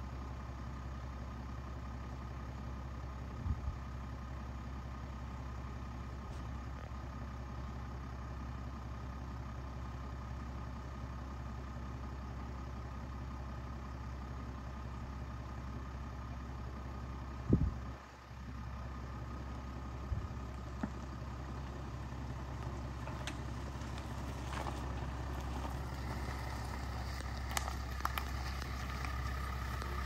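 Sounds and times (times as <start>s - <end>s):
car engine at low revs: 0.0s - 30.0s.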